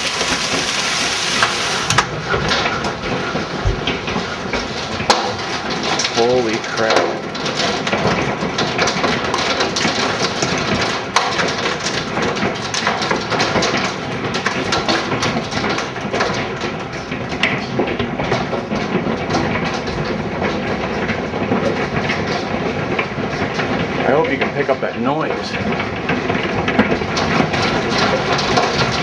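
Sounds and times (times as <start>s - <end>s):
hail pounding on house: 0.0s - 29.0s.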